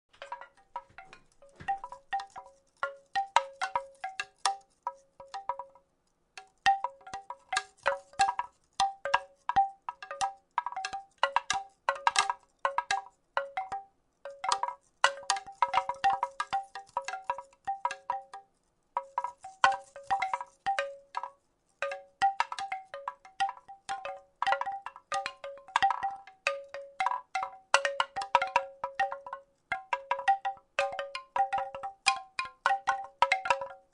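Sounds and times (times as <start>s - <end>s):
wooden rattle clacking: 0.1s - 5.8s, 6.4s - 18.4s, 19.0s - 33.9s.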